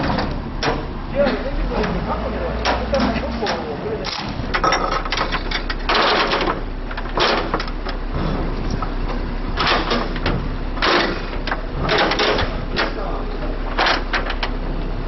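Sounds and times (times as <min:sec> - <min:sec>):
engine running: 0:00.0 - 0:15.0
noisy mechanical bursts: 0:00.0 - 0:15.0.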